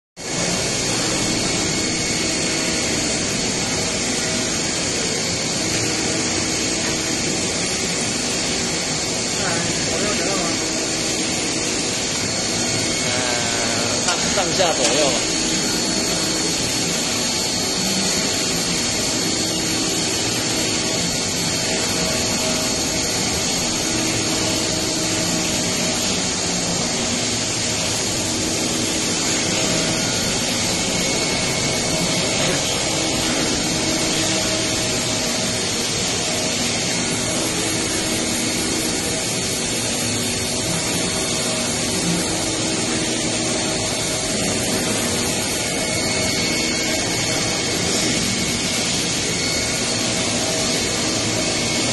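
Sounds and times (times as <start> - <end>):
high-pitched whine: 0.2 - 51.9
industrial machinery running: 0.2 - 51.9
low machine hums: 0.2 - 51.9.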